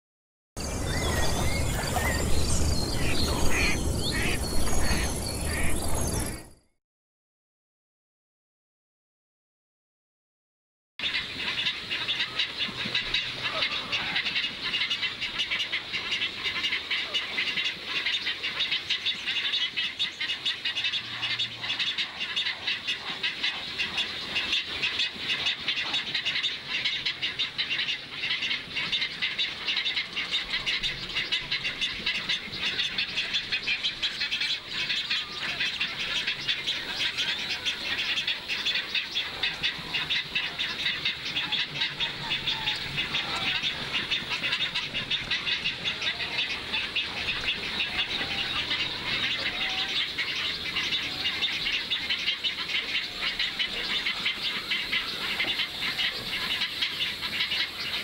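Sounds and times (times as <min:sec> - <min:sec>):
chorus of rapid bird chirps: 0:00.6 - 0:06.6, 0:11.0 - 0:58.0.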